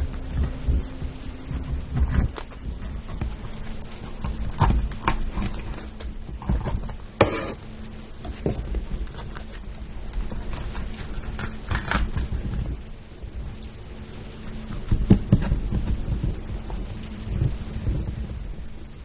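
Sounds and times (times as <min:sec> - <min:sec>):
food chewing and crunching: 0:00.0 - 0:17.7
low steady hum: 0:00.0 - 0:19.0.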